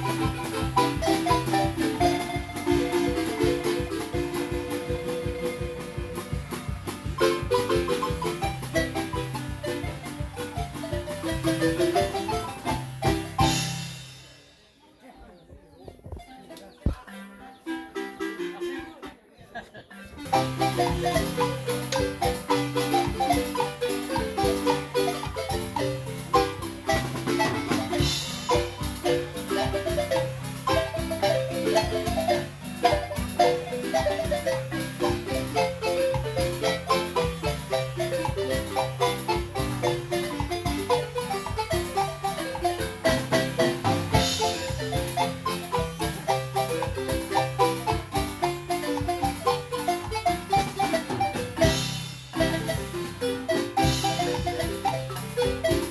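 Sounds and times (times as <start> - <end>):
marimba music: 0.0 - 14.5, 16.1 - 19.3, 20.0 - 55.9.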